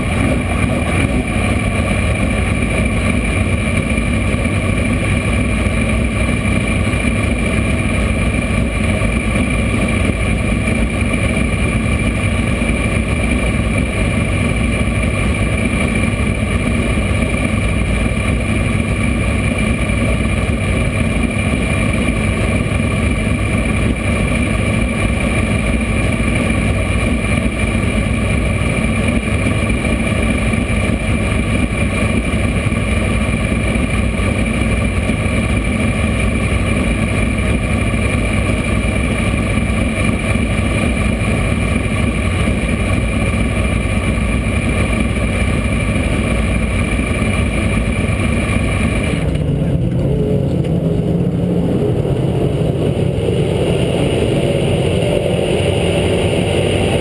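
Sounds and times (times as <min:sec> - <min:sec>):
race car engine idling: 0:00.0 - 0:57.0.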